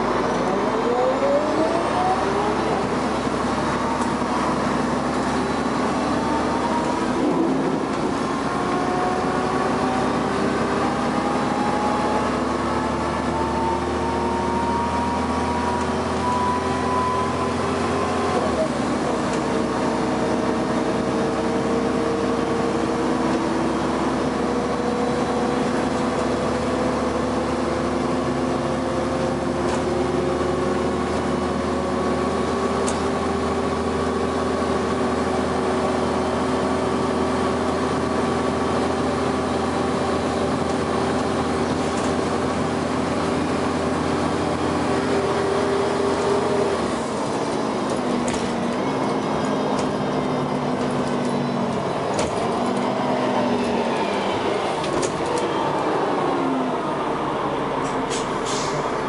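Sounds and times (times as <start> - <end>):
bus engine whining: 0.0 - 59.0.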